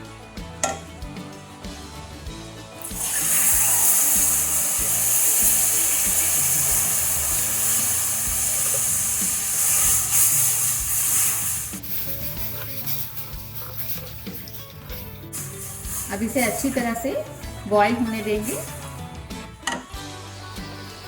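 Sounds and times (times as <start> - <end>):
milk sizzling in hot fat: 2.3 - 21.0.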